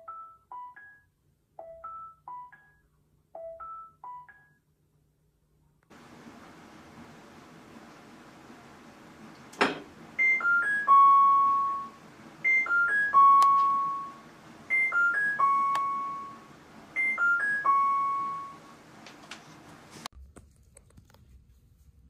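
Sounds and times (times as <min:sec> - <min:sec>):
washing machine electronic melody: 0:00.0 - 0:04.7, 0:05.9 - 0:20.1.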